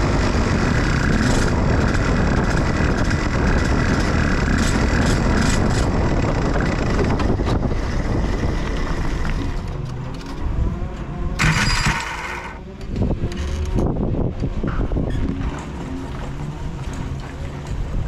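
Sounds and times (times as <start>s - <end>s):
kart engine at low revs: 0.0s - 18.0s.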